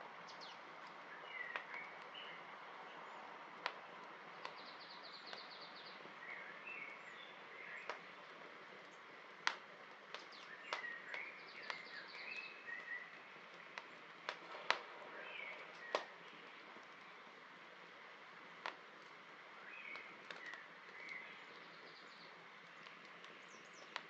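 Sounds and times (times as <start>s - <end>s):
birds chirping: 0.0s - 24.0s
campfire crackling and popping: 0.0s - 24.0s.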